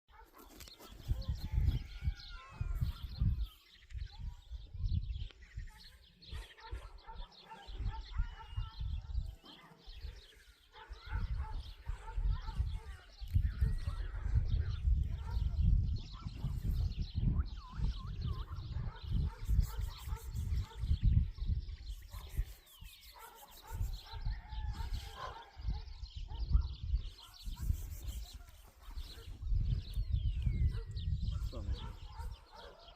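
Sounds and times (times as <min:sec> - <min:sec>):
small birds chirping: 0:00.1 - 0:32.9
low rumbling wind gusts: 0:00.9 - 0:05.7, 0:06.4 - 0:09.4, 0:10.8 - 0:22.5, 0:23.6 - 0:32.9.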